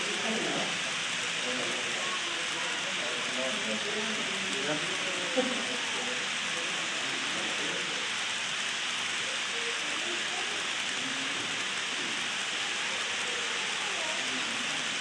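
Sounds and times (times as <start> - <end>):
model train wheels on rail: 0.0 - 15.0.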